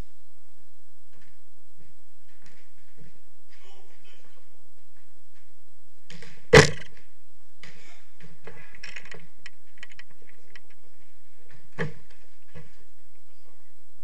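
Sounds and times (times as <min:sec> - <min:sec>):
ball hitting walls: 0:01.1 - 0:13.0.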